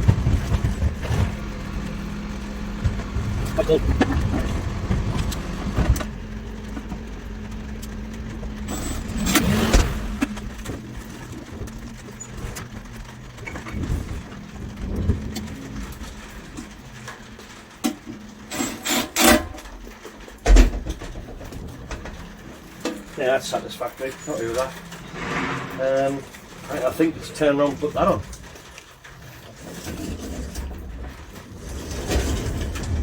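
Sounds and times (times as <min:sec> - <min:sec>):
lorry engine running: 0:00.0 - 0:33.0
sharp metallic clicks and clanks: 0:00.0 - 0:33.0.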